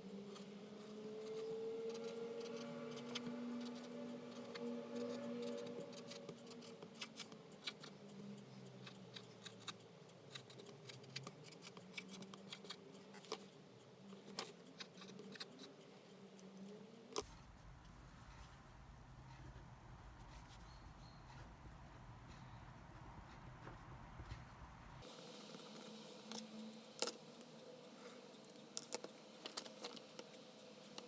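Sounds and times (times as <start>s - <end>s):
faint steady low hum: 0.0s - 31.0s.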